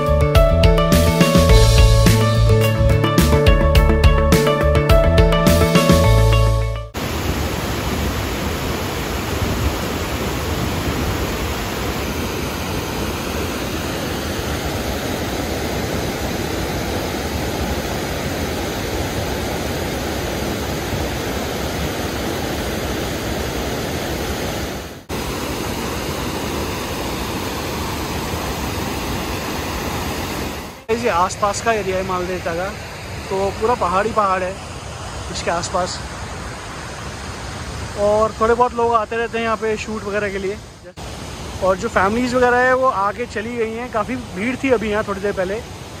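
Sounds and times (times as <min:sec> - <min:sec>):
river water rushing over rocks: 0:07.0 - 0:46.0.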